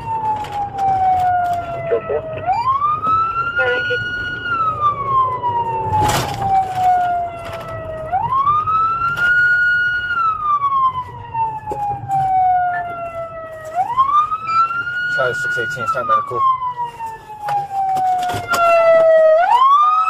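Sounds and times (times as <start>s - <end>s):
engine and road rumble: 0.0s - 20.0s
police siren wailing: 0.0s - 20.0s.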